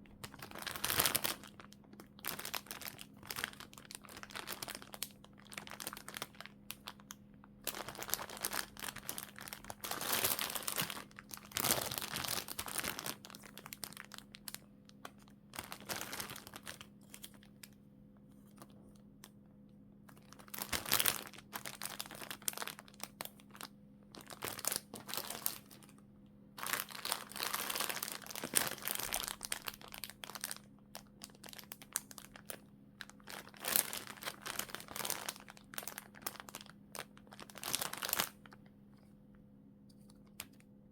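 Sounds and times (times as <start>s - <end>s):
plastic packaging crinkling: 0.0s - 17.8s, 20.1s - 26.0s, 26.6s - 38.7s.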